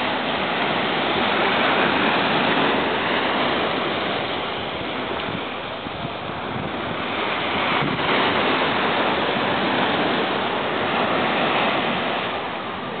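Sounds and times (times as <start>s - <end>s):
small waves breaking on sand: 0.0s - 13.0s
wind rumble on microphone: 0.0s - 13.0s.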